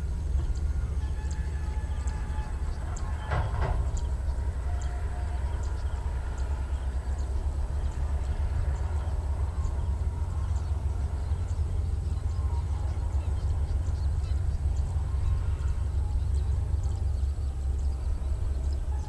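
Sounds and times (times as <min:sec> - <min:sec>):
distant train rumbling: 0:00.0 - 0:19.0.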